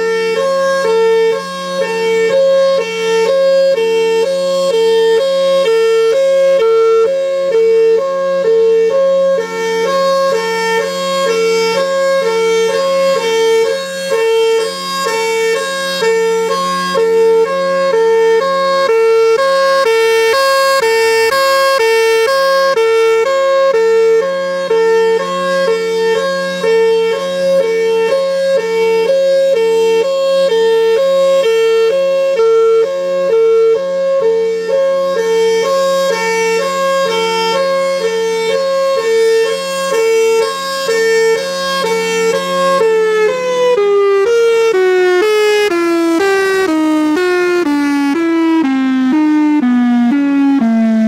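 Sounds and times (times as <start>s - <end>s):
two-tone siren: 0.0s - 51.0s.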